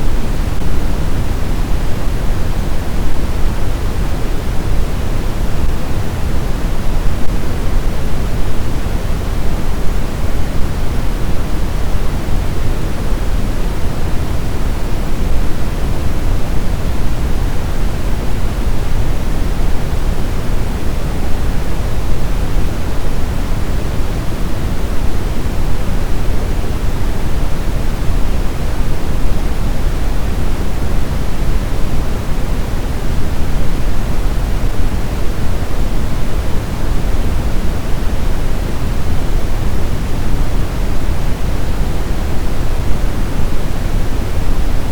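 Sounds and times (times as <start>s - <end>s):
steady pink noise: 0.0s - 44.9s.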